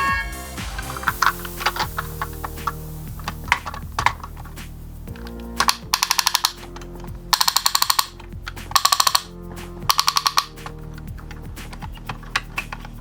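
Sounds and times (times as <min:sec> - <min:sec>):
background music: 0:00.0 - 0:13.0
rapid clicking bursts: 0:00.3 - 0:13.0.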